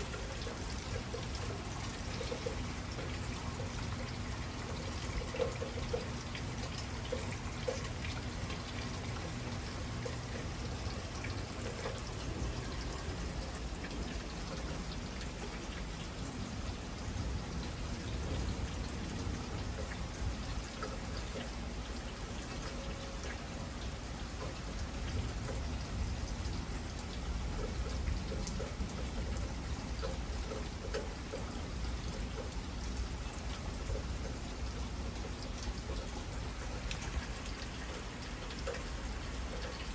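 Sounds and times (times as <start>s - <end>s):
drops ticking close by: 0.0s - 39.9s.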